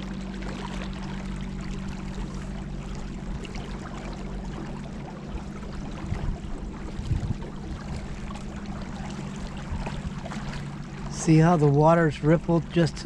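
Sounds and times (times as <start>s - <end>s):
river water splashing and gurgling: 0.0s - 13.0s
steady low hum: 0.0s - 13.0s.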